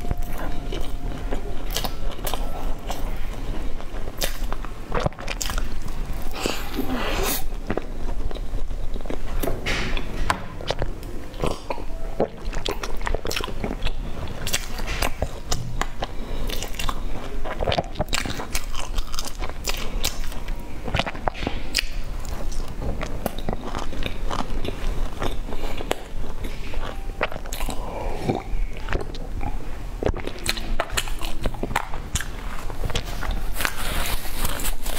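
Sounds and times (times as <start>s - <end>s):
person chewing a soft bun: 0.0s - 34.9s.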